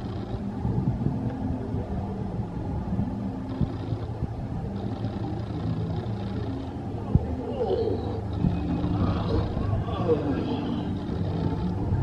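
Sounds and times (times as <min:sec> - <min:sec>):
boat rumbling in water channel: 0:00.0 - 0:12.0.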